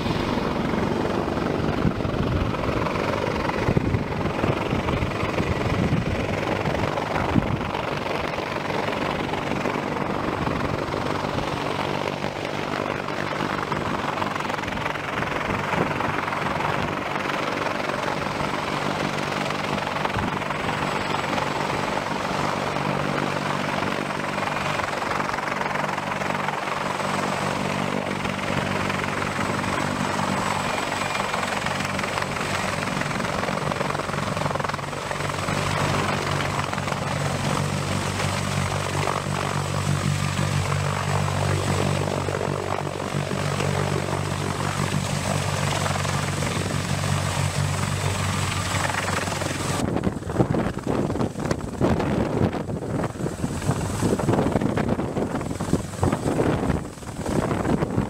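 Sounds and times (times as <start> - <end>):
helicopter rotor drone: 0.0 - 58.0.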